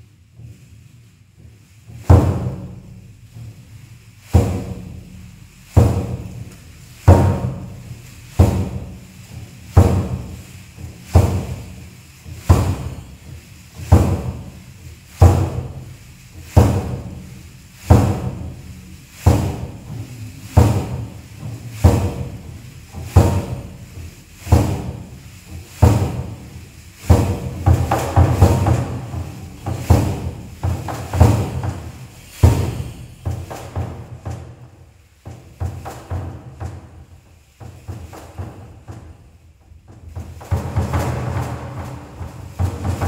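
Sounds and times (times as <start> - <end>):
large drum booming beat: 0.2 - 43.0.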